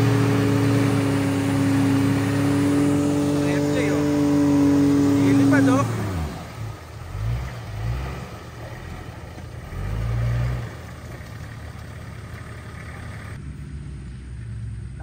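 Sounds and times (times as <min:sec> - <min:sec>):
car engine revving: 0:00.0 - 0:13.8.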